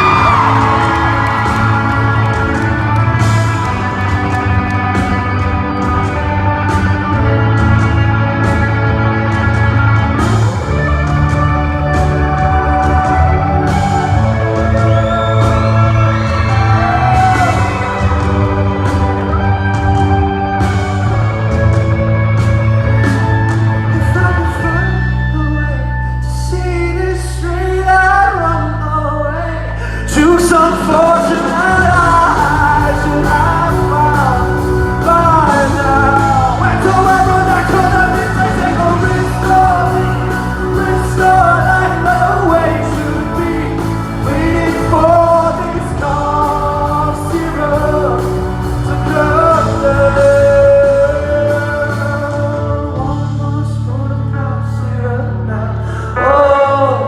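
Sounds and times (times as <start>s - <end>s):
man singing: 0.0s - 19.2s, 23.5s - 57.0s
live rock band playing: 0.0s - 57.0s.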